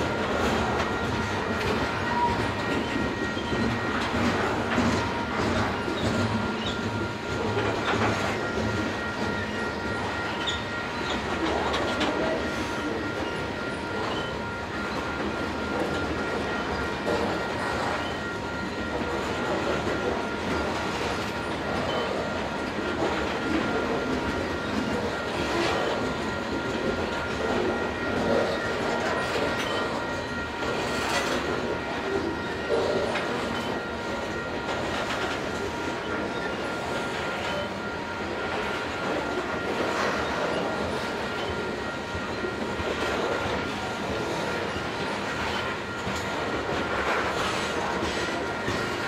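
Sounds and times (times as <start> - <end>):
crossing bell ringing: 0.0 - 49.0
freight train wheels clattering: 0.0 - 49.0.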